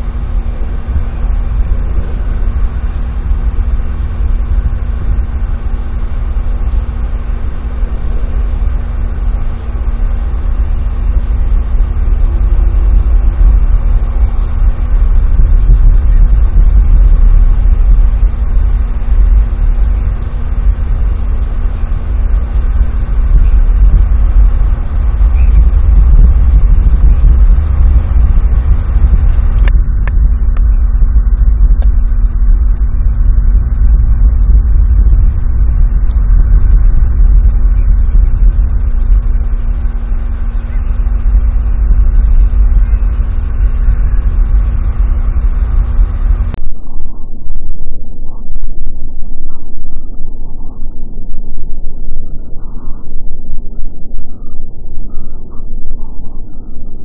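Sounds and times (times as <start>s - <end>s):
faint steady hum: 0.0s - 57.0s
wind buffeting microphone: 0.0s - 57.0s.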